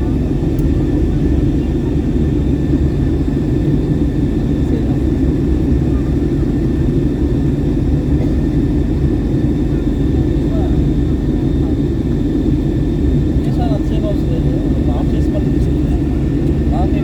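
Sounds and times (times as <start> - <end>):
airflow and engine rush: 0.0 - 17.0.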